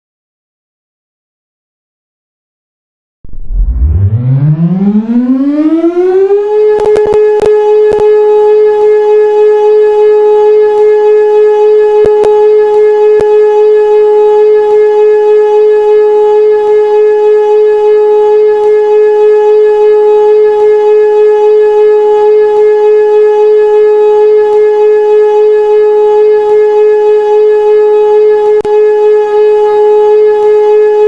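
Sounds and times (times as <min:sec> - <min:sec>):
siren steady tone: 0:03.3 - 0:31.0.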